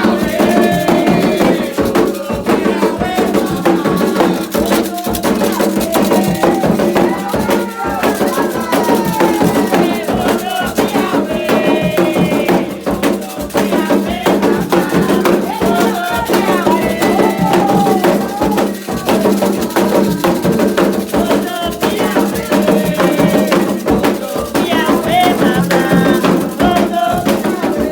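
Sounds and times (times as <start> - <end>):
hand drums: 0.0 - 27.9
struck percussion: 0.0 - 27.9
voices singing a chant: 0.0 - 27.9.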